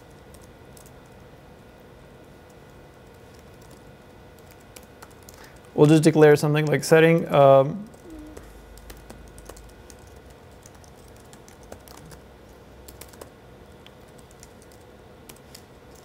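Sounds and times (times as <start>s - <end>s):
computer keyboard typing: 0.0s - 1.3s, 2.3s - 5.9s, 7.9s - 16.0s.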